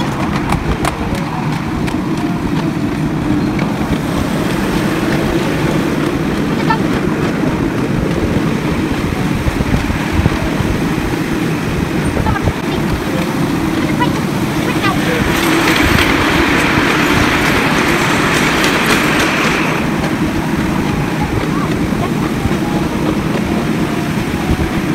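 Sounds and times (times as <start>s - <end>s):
miniature train rumbling on track: 0.0s - 24.9s.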